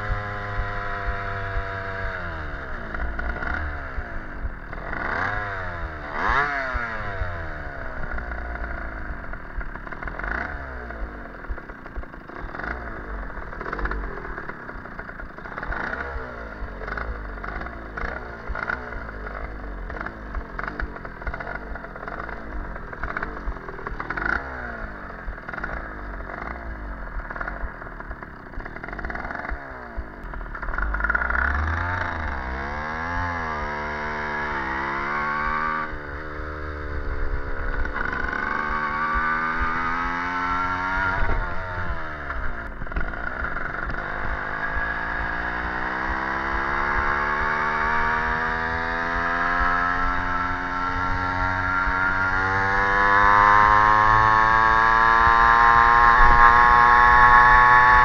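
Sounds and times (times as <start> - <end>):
moped two-stroke engine running: 0.0 - 58.0.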